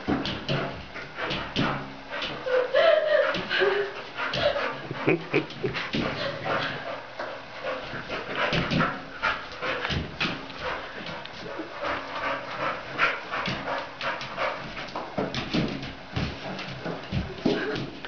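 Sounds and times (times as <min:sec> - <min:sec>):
paws scrabbling on wooden floor: 0:03.3 - 0:18.0.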